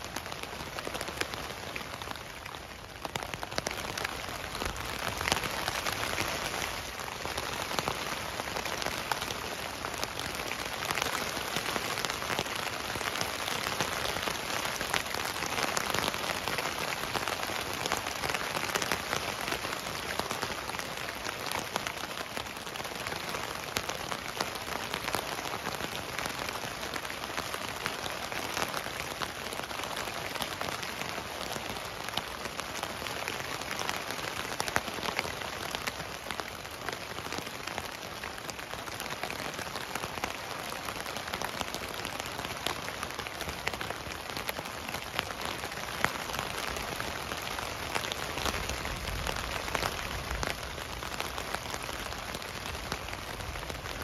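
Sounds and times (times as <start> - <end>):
rain on tent fabric: 0.0 - 54.0.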